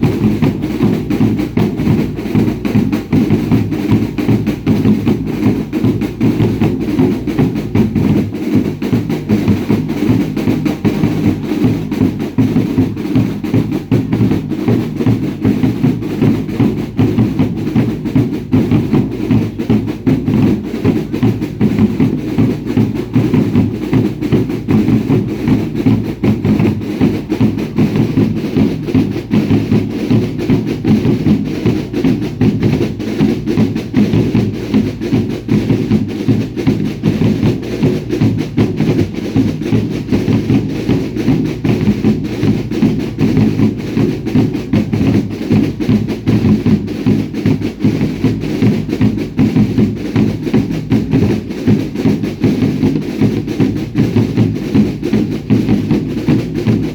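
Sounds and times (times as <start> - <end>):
bass and snare drums beating: 0.0 - 56.9.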